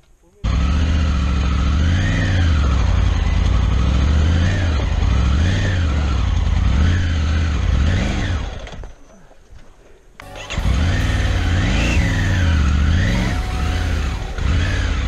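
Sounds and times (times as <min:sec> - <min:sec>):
motorcycle engine revving: 0:00.5 - 0:08.7, 0:10.2 - 0:15.0.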